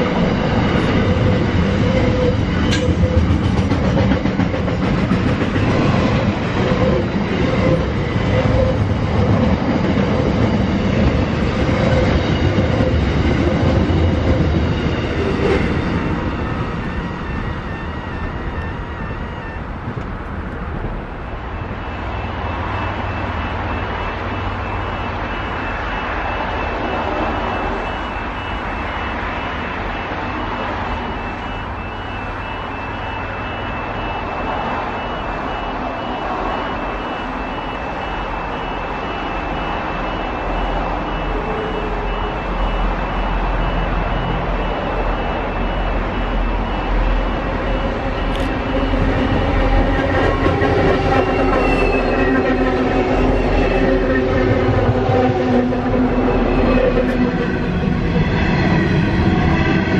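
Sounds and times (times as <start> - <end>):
diesel locomotive rumble: 0.0 - 59.9
outdoor background noise: 0.0 - 59.9.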